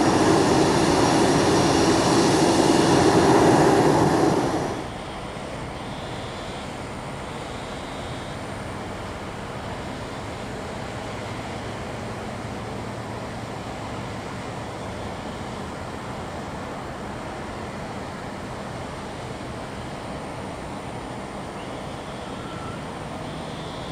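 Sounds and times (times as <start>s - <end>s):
jet engines whining: 0.0s - 12.1s, 12.8s - 23.9s
distant airport engine rumble: 0.0s - 23.9s.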